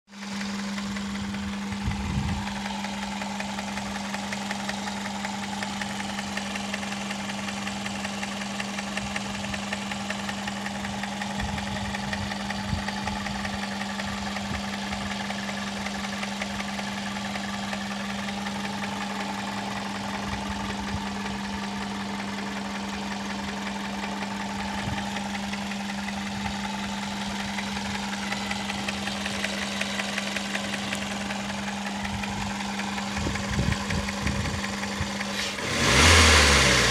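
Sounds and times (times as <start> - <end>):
car engine running with ticking: 0.0 - 36.9.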